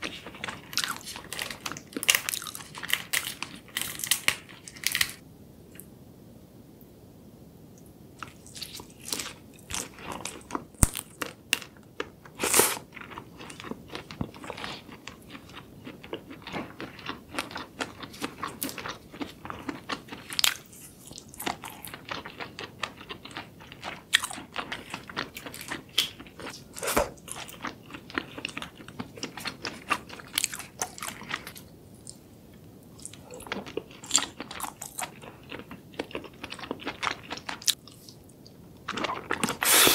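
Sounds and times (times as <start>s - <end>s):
crunching and chewing shrimp: 0.0s - 5.2s, 8.2s - 32.2s, 32.9s - 39.9s.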